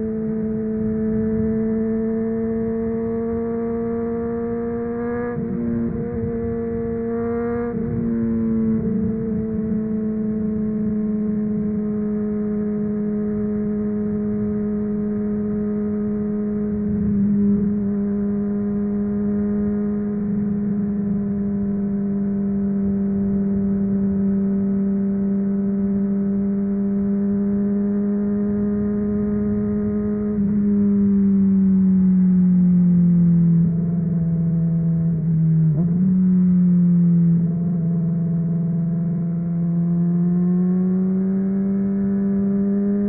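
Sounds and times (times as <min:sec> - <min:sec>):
motorcycle engine at high rpm: 0:00.0 - 0:43.0.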